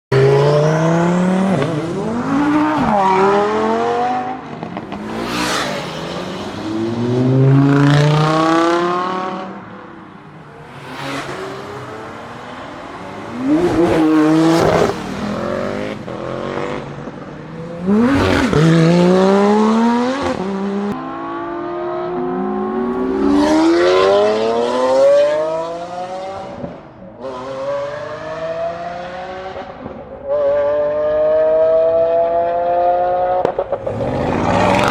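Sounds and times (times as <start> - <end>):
car engines accelerating hard: 0.1 - 34.9
cars passing by: 0.1 - 34.9.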